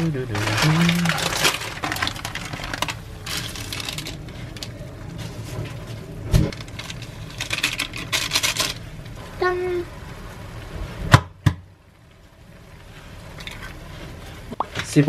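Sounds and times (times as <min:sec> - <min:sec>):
stew bubbling at a rolling boil: 0:00.0 - 0:15.0.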